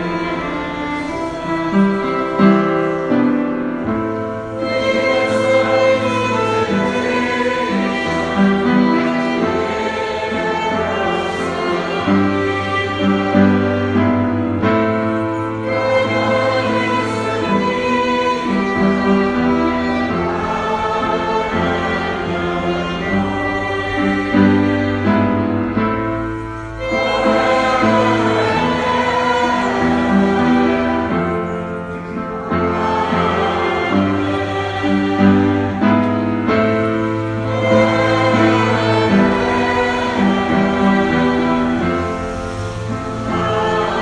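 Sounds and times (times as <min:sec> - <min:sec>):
slow bowed string music: 0:00.0 - 0:44.0.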